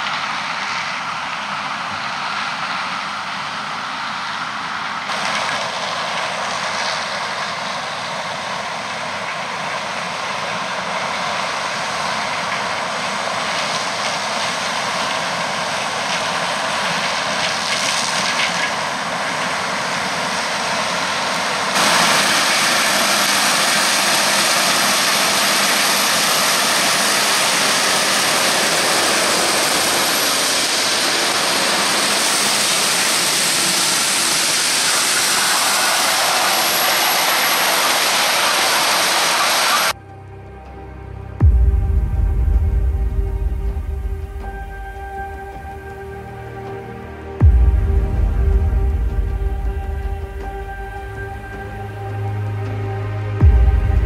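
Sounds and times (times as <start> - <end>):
combine harvester drone: 0.0 - 54.0
faint high whine: 0.0 - 54.0.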